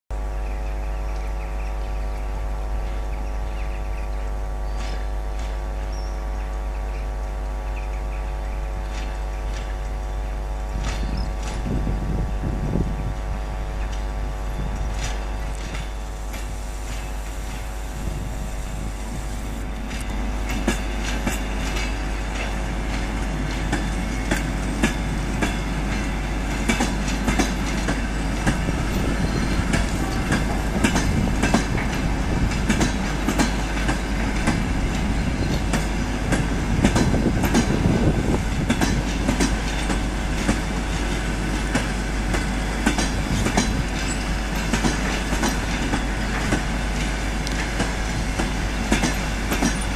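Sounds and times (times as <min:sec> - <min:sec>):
locomotive running hum: 0:00.1 - 0:49.9
train wheels clicking over rail joints: 0:01.1 - 0:49.9.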